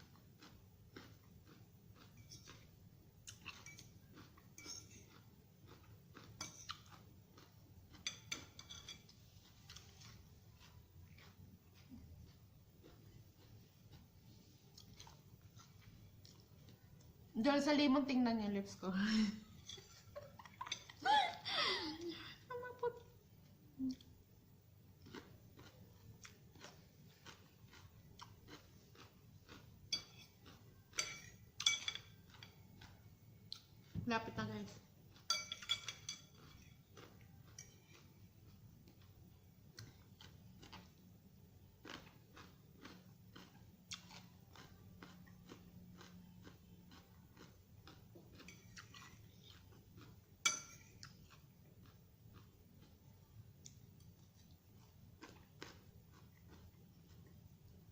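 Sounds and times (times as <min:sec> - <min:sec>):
crunchy chewing of salad: 0:00.0 - 0:17.3, 0:23.4 - 0:34.0, 0:34.7 - 0:57.9.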